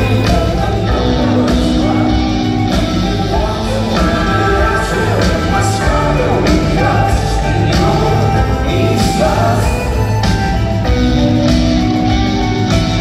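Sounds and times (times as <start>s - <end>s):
person singing: 0.0s - 10.8s
drums: 0.0s - 13.0s
electric guitar: 0.0s - 13.0s.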